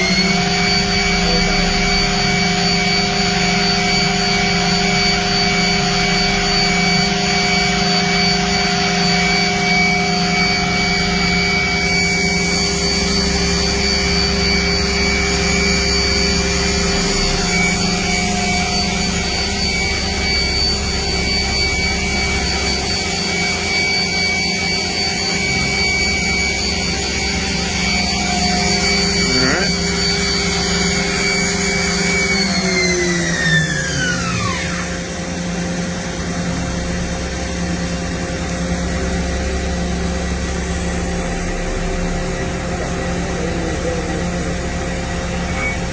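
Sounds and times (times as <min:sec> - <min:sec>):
machine hum: 0:00.0 - 0:45.9
spindle whine winding down: 0:00.0 - 0:45.9.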